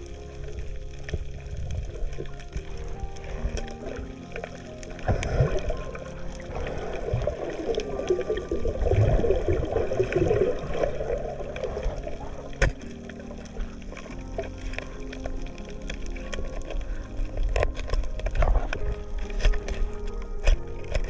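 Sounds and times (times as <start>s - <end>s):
underwater bubbling rush: 0.0s - 21.0s.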